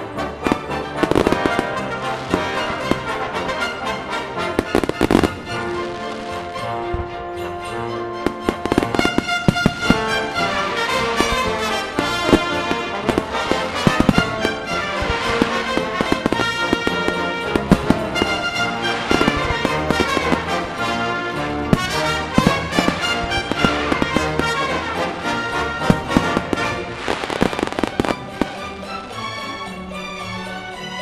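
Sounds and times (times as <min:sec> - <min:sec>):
fireworks bangs and crackles: 0:00.0 - 0:29.7
orchestral music: 0:00.0 - 0:31.0.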